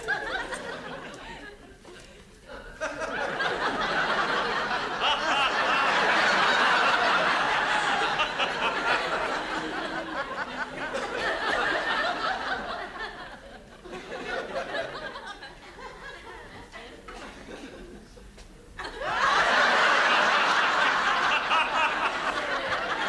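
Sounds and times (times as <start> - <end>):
studio audience laughing: 0.0 - 1.8, 2.8 - 16.8, 18.8 - 23.0.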